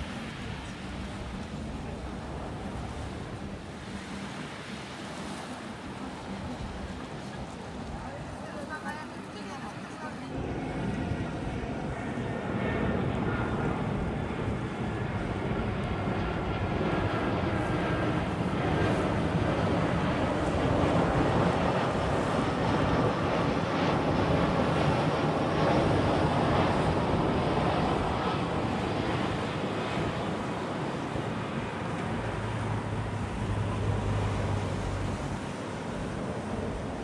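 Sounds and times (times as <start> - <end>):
jet engine rumble: 0.0 - 37.0.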